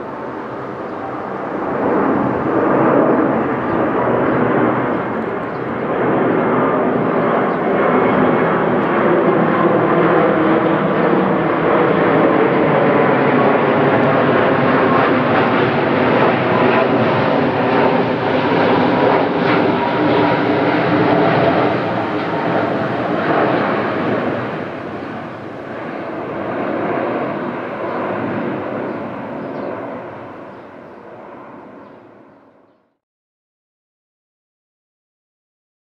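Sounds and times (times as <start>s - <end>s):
loud jet noise: 0.0s - 32.2s.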